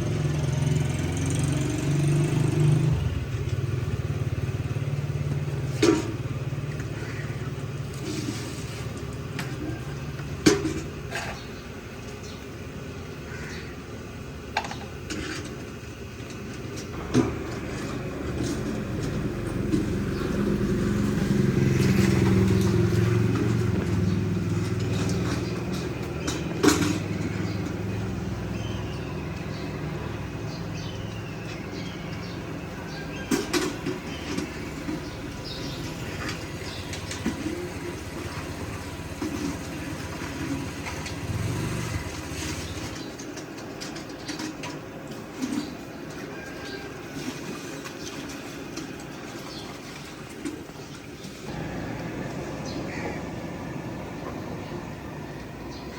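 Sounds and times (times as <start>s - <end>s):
motorcycle passing: 0.0s - 12.4s, 16.9s - 43.4s, 49.4s - 55.9s
street noise: 0.0s - 55.9s.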